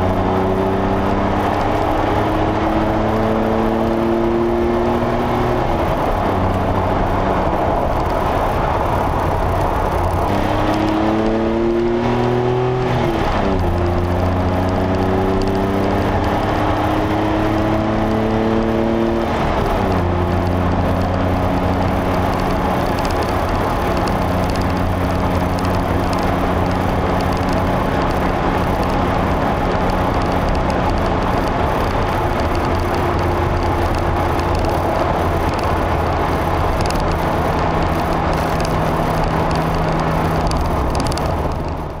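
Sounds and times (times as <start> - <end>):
car engine revving: 0.0 - 42.0
road and wind noise: 0.0 - 42.0.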